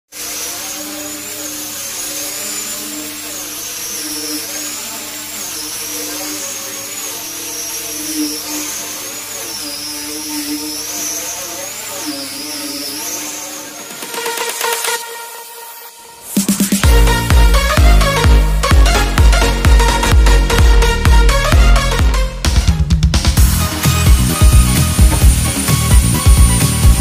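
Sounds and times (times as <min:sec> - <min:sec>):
angle grinder sanding wood: 0:00.2 - 0:22.0, 0:23.4 - 0:27.0.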